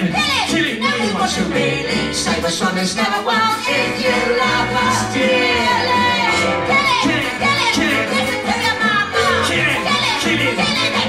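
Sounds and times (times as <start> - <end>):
band accompaniment: 0.0 - 11.0
voices singing: 0.0 - 11.0.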